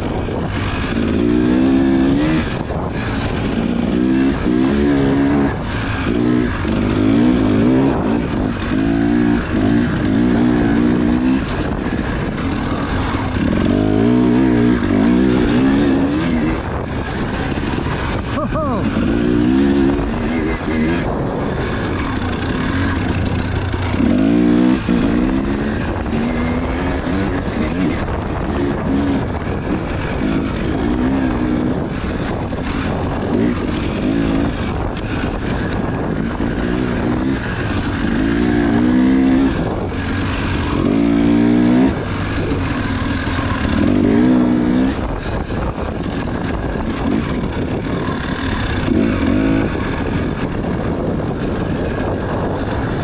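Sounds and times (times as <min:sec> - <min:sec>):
dirt bike engine revving: 0:00.0 - 0:53.0
steady rushing noise: 0:00.0 - 0:53.0.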